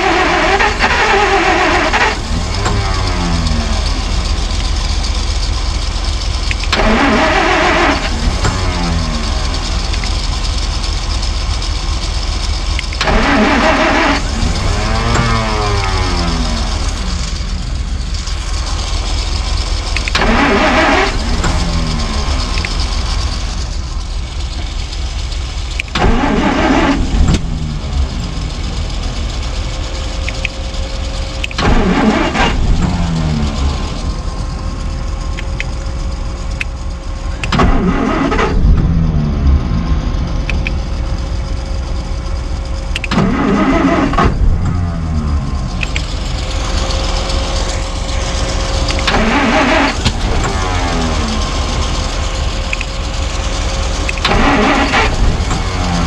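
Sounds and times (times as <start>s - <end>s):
engine cranking: 0.0s - 56.0s
steady rumble: 0.0s - 56.0s.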